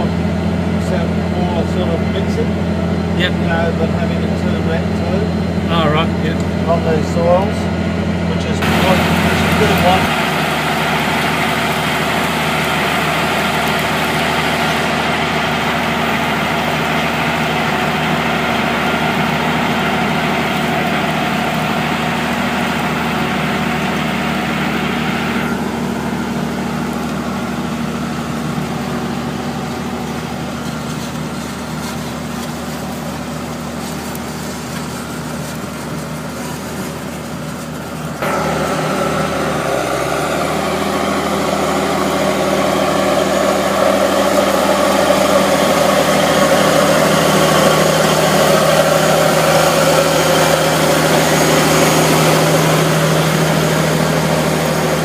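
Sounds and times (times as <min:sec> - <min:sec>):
tillage discs working soil: 0:00.0 - 0:55.0
tractor engine drone: 0:00.0 - 0:55.0.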